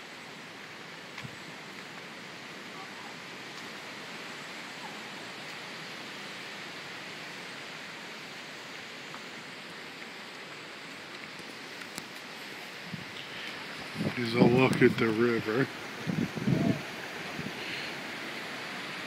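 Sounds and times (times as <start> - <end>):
water rushing hiss: 0.0 - 19.0.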